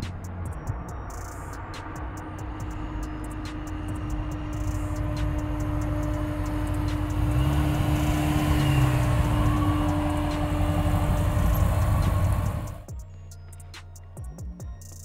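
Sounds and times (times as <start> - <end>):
car engine rumbling: 0.0 - 12.9.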